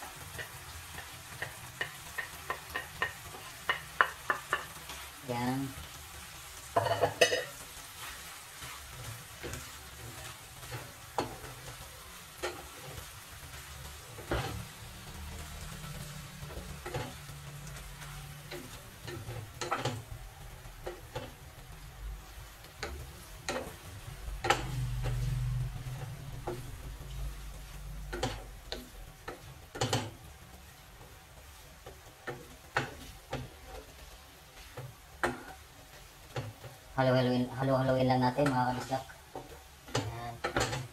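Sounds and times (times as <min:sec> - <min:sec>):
light sizzle: 0:00.0 - 0:40.9
spatula scraping a frying pan: 0:00.0 - 0:40.9.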